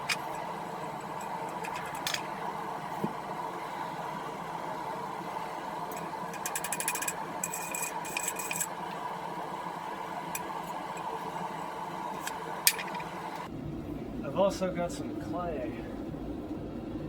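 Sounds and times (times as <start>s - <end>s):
forge blower humming: 0.0s - 17.0s.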